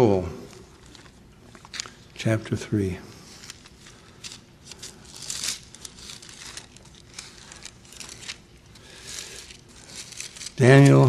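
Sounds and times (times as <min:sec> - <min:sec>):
book pages rustling: 0:00.5 - 0:02.2, 0:03.1 - 0:11.0.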